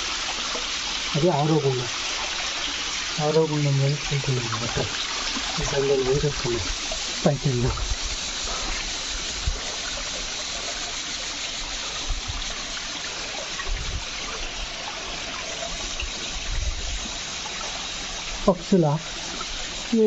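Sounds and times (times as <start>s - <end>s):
stream water running over rocks: 0.0s - 20.0s.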